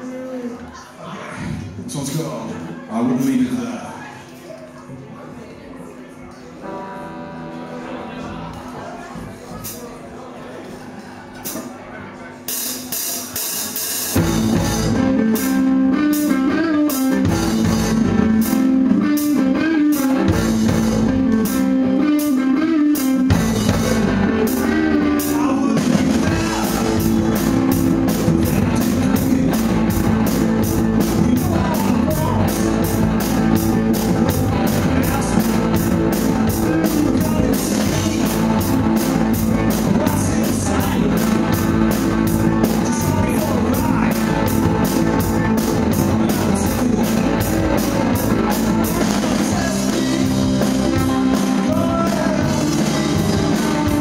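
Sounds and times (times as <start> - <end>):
drums: 0.0 - 4.8, 7.6 - 54.0
electric guitar: 6.6 - 9.3, 12.5 - 54.0
live rock band playing: 6.6 - 9.9, 11.4 - 54.0.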